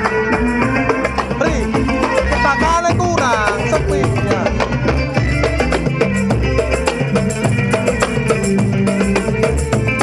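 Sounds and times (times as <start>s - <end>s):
drum and percussion strokes: 0.0s - 10.0s
held melody notes: 0.0s - 10.0s.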